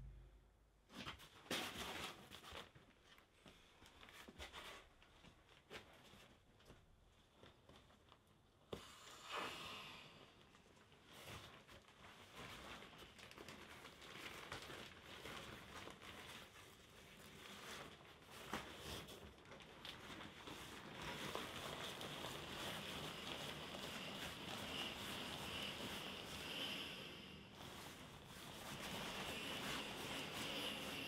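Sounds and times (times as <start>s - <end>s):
fabric crinkling and rustling: 0.9s - 8.7s, 10.3s - 31.0s.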